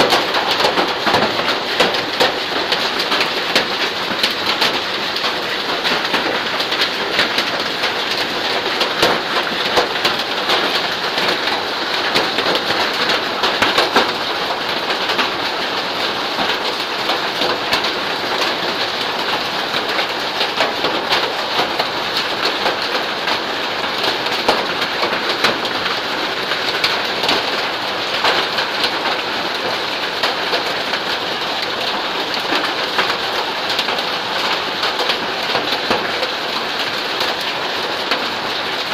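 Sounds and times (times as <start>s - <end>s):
hailstones ticking: 0.0s - 38.9s
rain pattering on mud and puddles: 0.0s - 38.9s.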